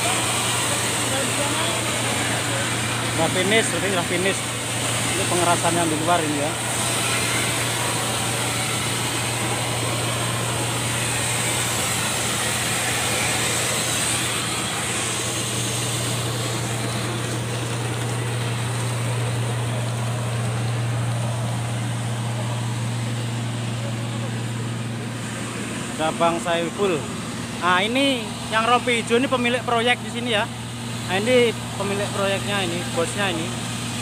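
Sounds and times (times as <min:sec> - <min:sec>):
machinery low hum: 0:00.0 - 0:34.0.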